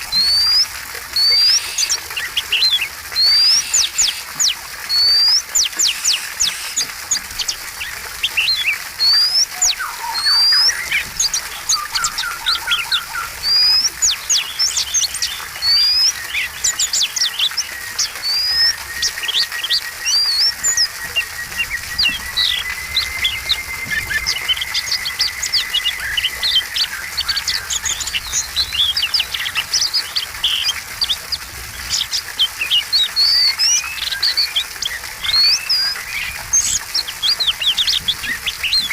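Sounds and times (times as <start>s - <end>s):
bird singing whistles and chirps: 0.1s - 38.9s.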